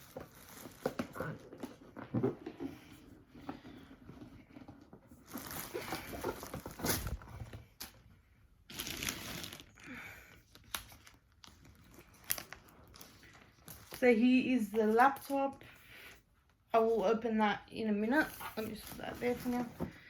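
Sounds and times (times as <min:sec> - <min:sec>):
wrapping and cardboard rustling: 0:00.0 - 0:08.0, 0:08.6 - 0:15.6, 0:18.1 - 0:20.0.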